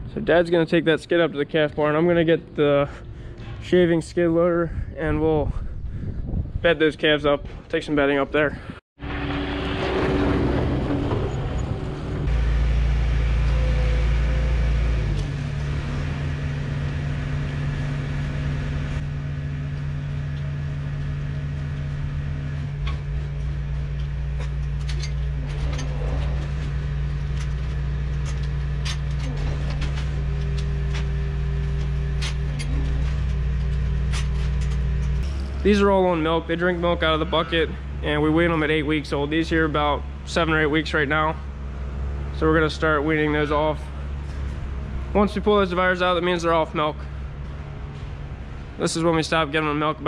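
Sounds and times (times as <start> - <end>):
diesel engine running: 8.6 - 50.0.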